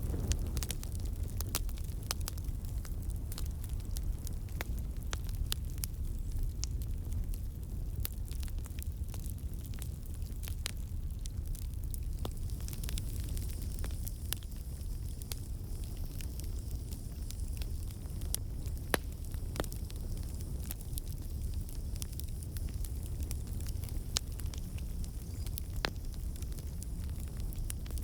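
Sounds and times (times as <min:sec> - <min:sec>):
campfire crackling and popping: 0:00.0 - 0:28.0
campfire low rumble: 0:00.0 - 0:28.0.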